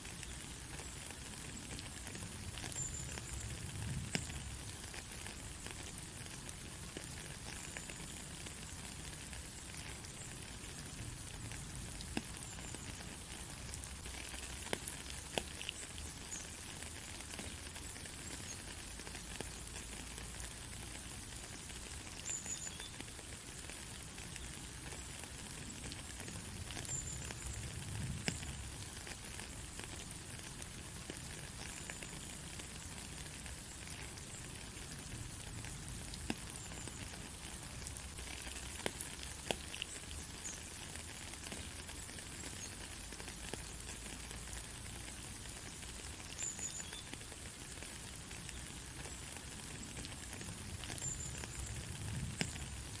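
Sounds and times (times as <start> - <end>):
raindrops ticking: 0.0 - 53.0
steady rain hiss: 0.0 - 53.0.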